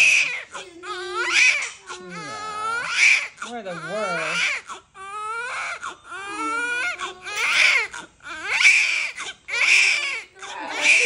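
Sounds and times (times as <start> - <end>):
newborn baby crying: 0.0 - 11.0.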